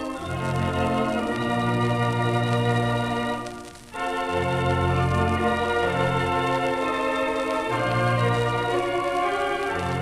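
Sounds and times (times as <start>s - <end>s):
theatre organ chords: 0.0s - 10.0s.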